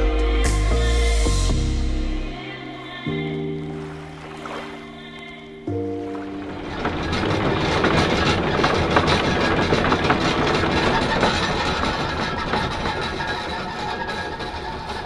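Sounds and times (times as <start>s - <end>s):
boat engine rumbling: 0.8s - 15.0s.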